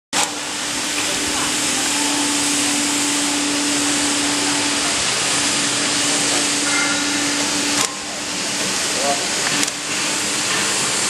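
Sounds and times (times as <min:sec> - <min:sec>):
hydraulic power unit hissing: 0:00.2 - 0:11.0
constant humming tone: 0:00.3 - 0:09.9.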